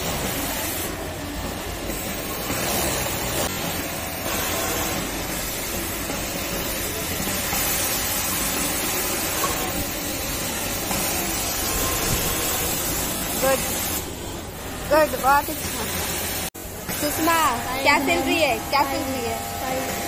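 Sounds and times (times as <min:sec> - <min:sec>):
overlock machine stitching: 0:00.0 - 0:16.5
industrial sewing machines running: 0:00.0 - 0:20.0.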